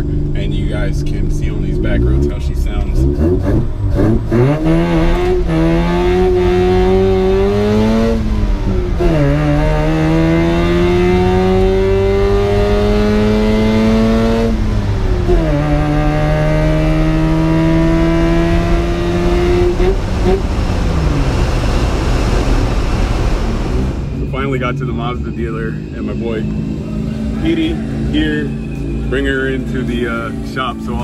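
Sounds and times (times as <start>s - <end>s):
rotary engine accelerating: 0.0s - 31.0s.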